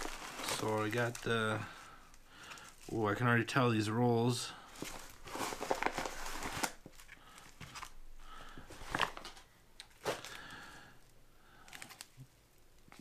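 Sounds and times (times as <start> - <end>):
envelope and plastic crinkling: 0.0 - 3.3, 4.6 - 10.7, 11.6 - 13.0.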